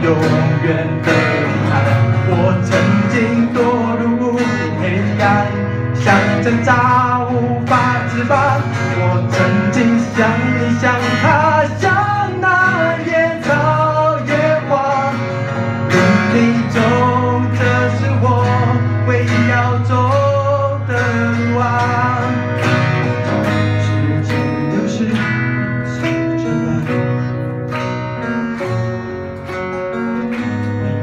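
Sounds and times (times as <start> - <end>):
man singing into a microphone: 0.0 - 22.8, 23.4 - 27.5
acoustic guitars strumming: 0.0 - 31.0.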